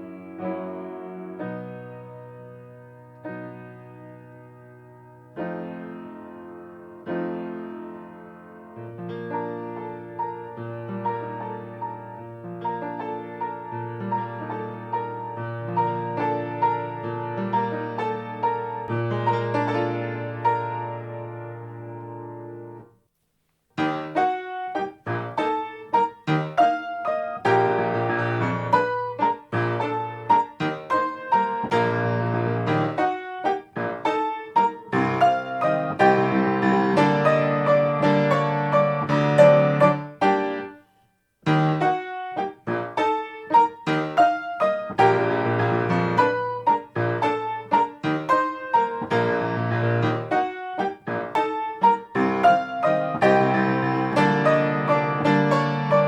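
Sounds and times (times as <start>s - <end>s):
grand piano waltz: 0.0s - 23.0s, 23.8s - 56.0s.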